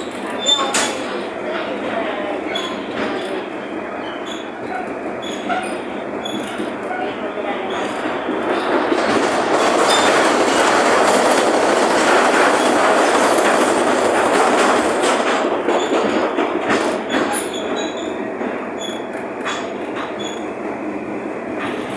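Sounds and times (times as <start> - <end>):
rail joint clicks: 0.0 - 1.8, 2.5 - 20.5
train wheels on rails: 0.0 - 21.9.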